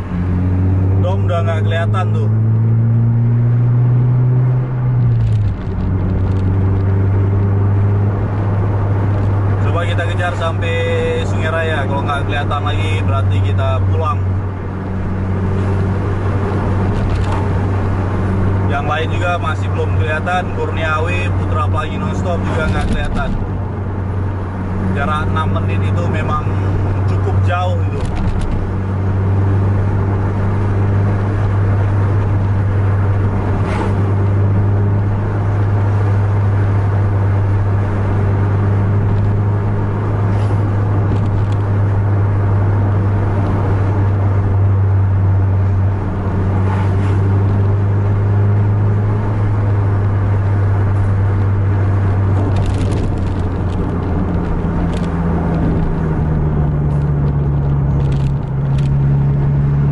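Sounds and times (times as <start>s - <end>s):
diesel engine drone: 0.0s - 59.9s
road noise: 0.0s - 59.9s.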